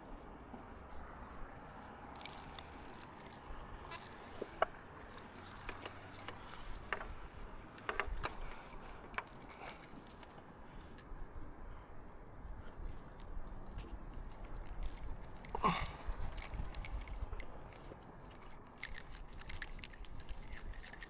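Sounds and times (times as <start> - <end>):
small clicks and scrapes: 0.5 - 11.2, 12.6 - 21.0.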